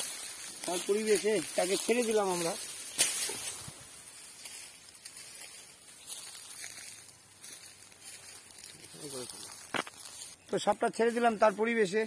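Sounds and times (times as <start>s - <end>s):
faint rustles and ticks: 0.0s - 12.0s.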